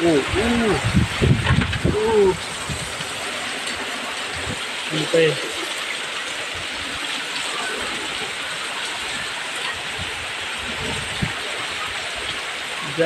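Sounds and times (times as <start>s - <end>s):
strong wind gusts: 0.0s - 4.8s, 6.4s - 13.0s
heavy rain pouring: 0.0s - 13.0s.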